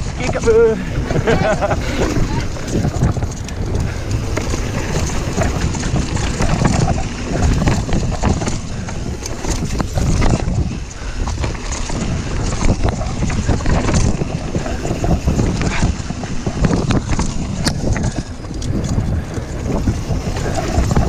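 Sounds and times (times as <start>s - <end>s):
bike clattering over bumps: 0.0s - 21.0s
bike tyres rumbling on dirt: 0.0s - 21.0s
wind buffeting microphone: 0.0s - 21.0s.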